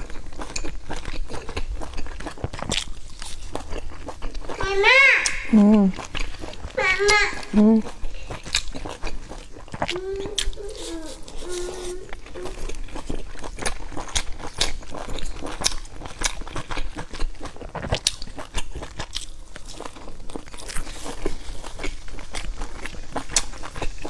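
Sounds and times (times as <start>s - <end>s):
chewing crispy flatbread: 0.0s - 24.0s.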